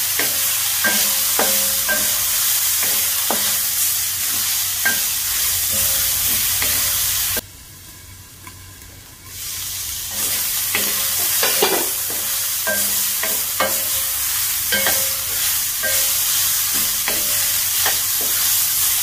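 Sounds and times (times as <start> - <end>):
spatula scraping and knocking pan: 0.0 - 7.0, 10.1 - 19.0
meat sizzling in a pan: 0.0 - 19.0.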